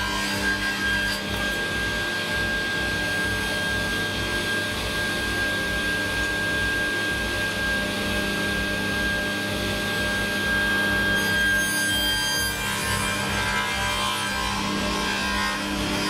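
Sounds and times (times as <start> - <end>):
table saw motor and blade whine: 0.0 - 16.0.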